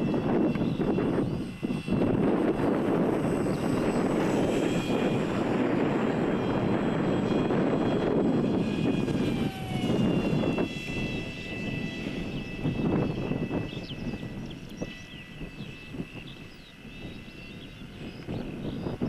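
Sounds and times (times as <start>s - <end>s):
model jet motor whining: 0.0s - 19.0s
wind buffeting microphone: 0.0s - 19.0s.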